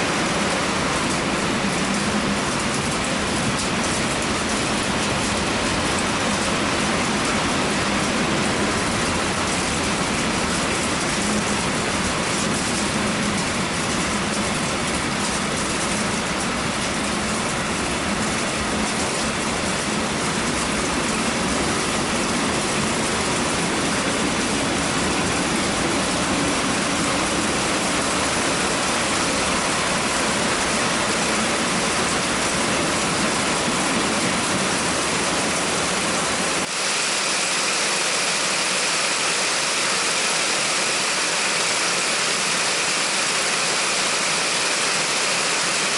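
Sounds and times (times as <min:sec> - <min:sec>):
heavy rain downpour: 0:00.0 - 0:45.9.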